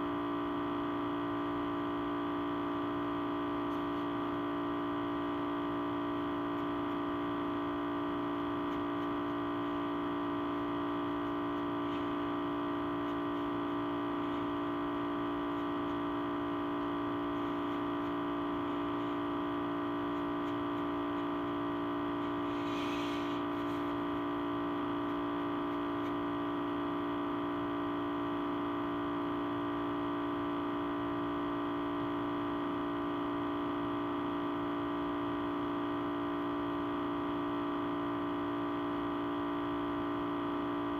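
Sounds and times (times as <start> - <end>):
audio feedback hum: 0.0 - 40.9.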